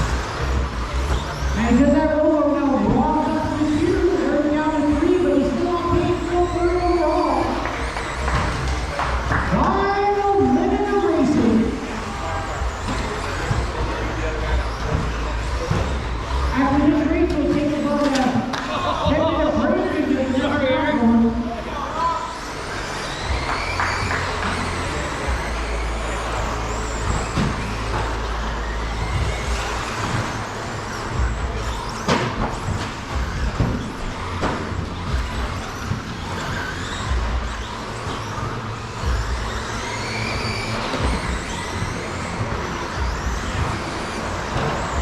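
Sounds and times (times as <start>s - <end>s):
high motor whines: 0.0s - 45.0s.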